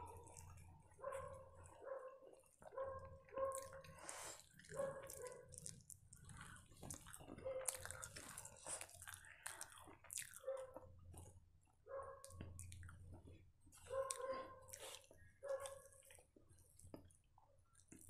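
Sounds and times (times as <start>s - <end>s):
chewing and lip smacking: 0.0s - 18.0s.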